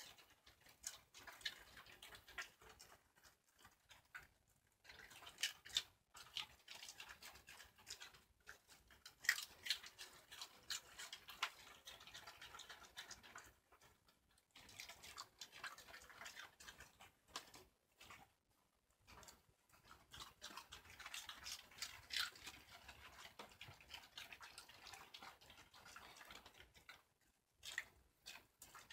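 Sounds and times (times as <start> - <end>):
dogs crunching cabbage leaves: 0.0 - 28.9.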